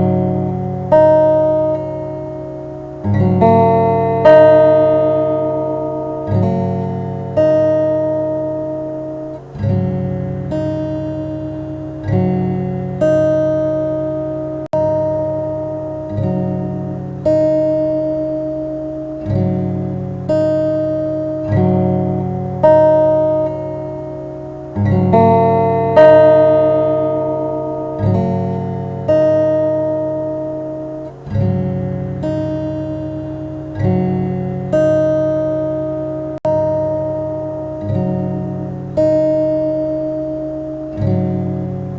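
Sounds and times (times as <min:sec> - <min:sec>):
acoustic guitar chords ringing: 0:00.0 - 0:41.9.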